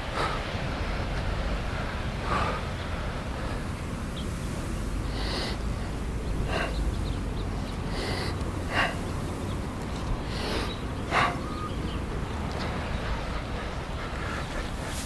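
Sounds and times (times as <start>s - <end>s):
man breathing hard: 0.0s - 15.0s
steady low rumble: 0.0s - 15.0s.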